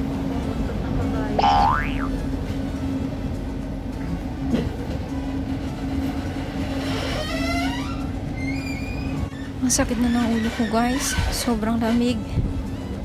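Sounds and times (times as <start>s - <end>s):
rail car rumble: 2.2s - 13.0s.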